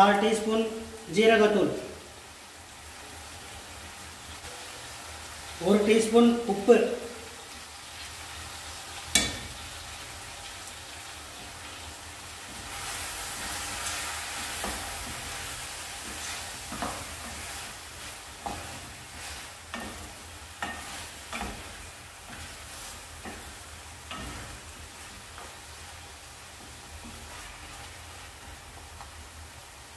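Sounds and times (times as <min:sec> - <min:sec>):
food sizzling in oil: 0:00.0 - 0:29.9.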